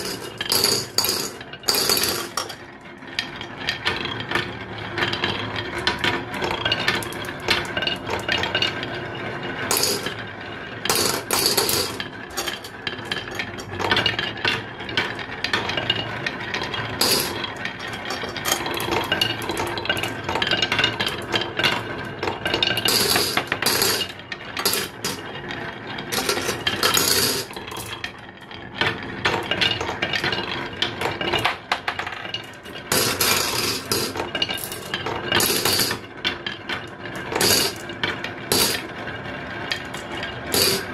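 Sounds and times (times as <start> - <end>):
marbles rolling on wooden track: 0.0 - 40.9.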